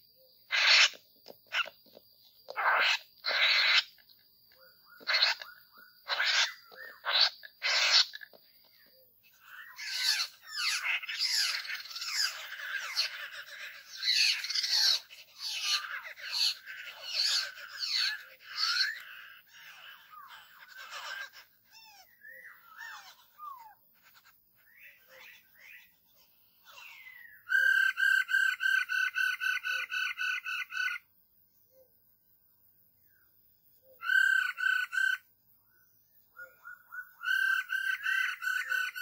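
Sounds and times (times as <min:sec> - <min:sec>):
birds calling harshly: 0:00.0 - 0:31.1, 0:33.1 - 0:39.0
birds chattering chorus: 0:00.0 - 0:32.1, 0:32.9 - 0:39.0.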